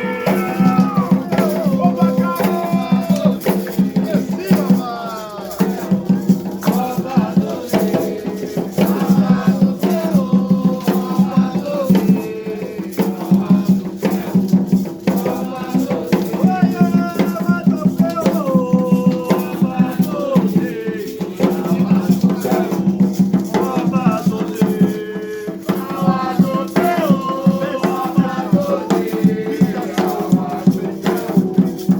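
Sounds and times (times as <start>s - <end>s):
drums: 0.0s - 31.9s
rattles shaking: 0.0s - 31.9s
voices chanting: 0.0s - 31.9s.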